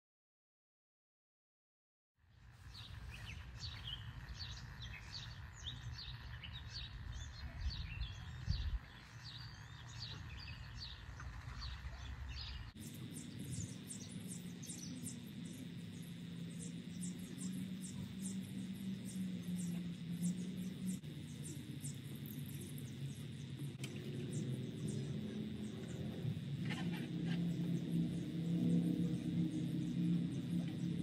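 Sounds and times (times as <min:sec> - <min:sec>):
low outdoor rumble: 0:02.3 - 0:31.0
steady hum: 0:02.3 - 0:31.0
small birds chirping: 0:02.4 - 0:31.0.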